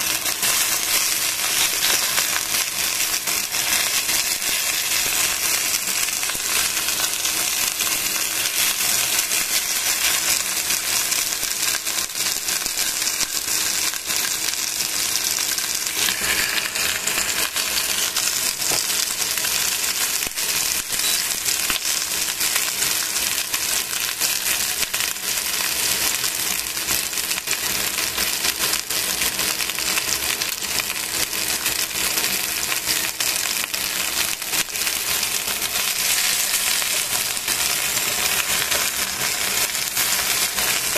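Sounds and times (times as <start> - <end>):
chicken sizzling in a pan: 0.0 - 40.9.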